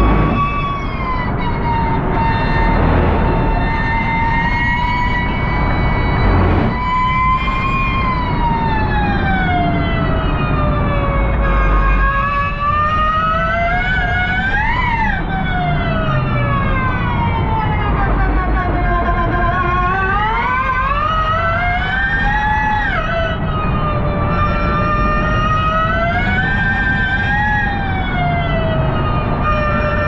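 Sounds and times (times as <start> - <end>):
electric drivetrain whining: 0.0 - 30.0
road and tyre rumble: 0.0 - 30.0.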